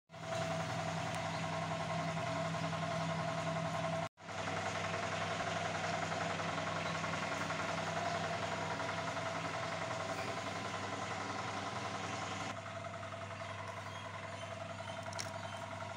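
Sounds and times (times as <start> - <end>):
engine idling: 0.1 - 15.9.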